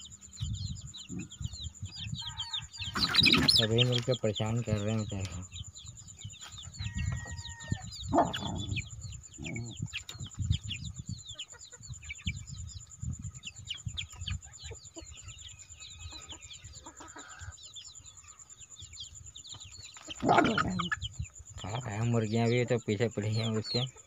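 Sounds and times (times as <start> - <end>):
hen clucks: 0.0 - 5.6, 6.2 - 18.7, 19.5 - 24.0
chicks peeping: 0.0 - 24.0.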